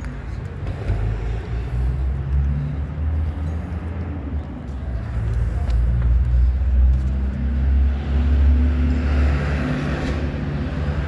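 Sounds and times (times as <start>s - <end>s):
road traffic rumble: 0.0s - 11.0s
vehicle passing: 0.3s - 11.0s.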